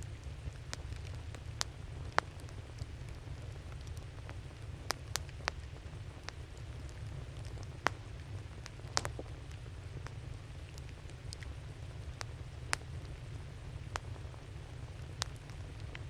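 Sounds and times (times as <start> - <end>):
campfire wood crackling and popping: 0.0 - 16.0.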